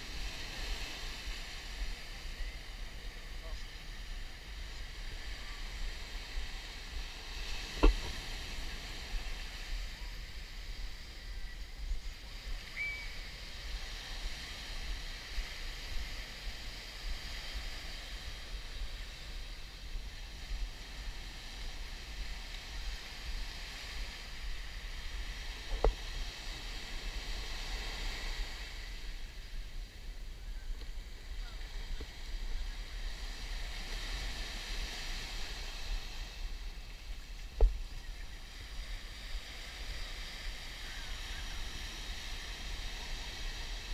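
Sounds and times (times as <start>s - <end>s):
surf washing on beach: 0.0s - 43.9s.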